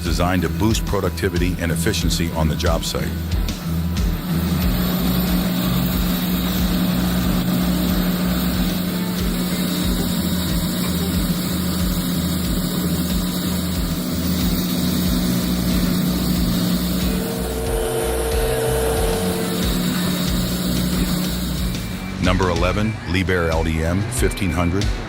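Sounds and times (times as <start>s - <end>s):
steady machine hum: 0.0s - 24.2s.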